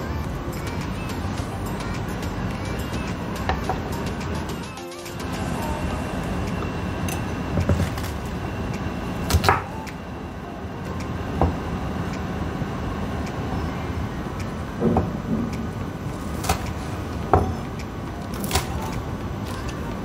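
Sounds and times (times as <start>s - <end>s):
background hum: 0.0s - 20.0s.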